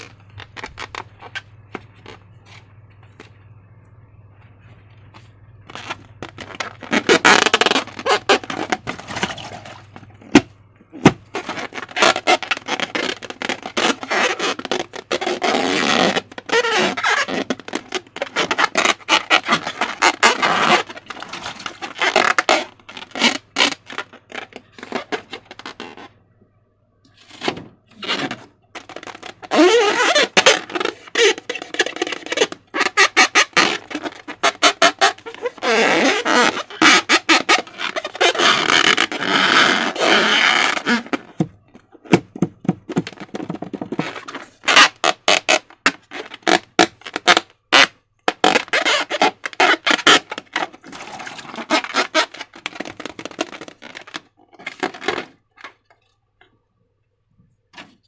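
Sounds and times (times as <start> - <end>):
balloon rubber squeaking: 0.0 - 2.6, 5.6 - 26.2, 27.2 - 56.0.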